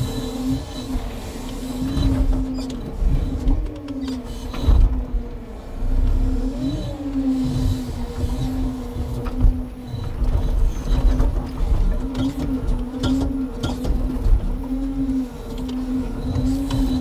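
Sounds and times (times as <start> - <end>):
hydraulic crane whining: 0.0 - 17.0
truck engine rumble: 0.0 - 17.0.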